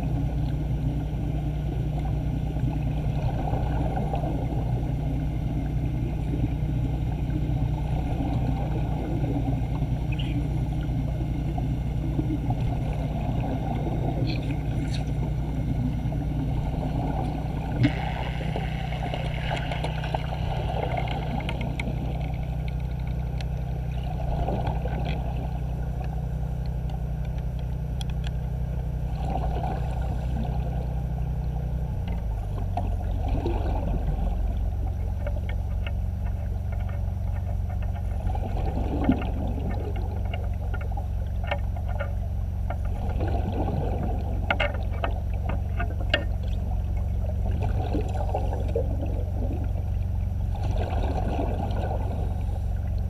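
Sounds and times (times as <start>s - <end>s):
gurgling rush of bubbles: 0.0s - 26.0s, 29.0s - 36.4s, 38.0s - 41.9s, 42.7s - 53.0s
low machinery hum: 0.0s - 53.0s.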